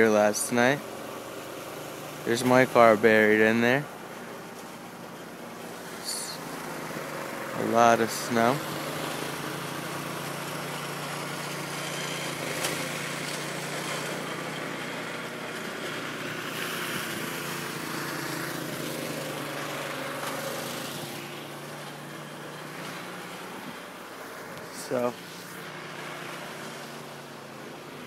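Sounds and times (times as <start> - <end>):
engine hum: 0.0 - 28.0
outdoor noise: 0.0 - 28.0.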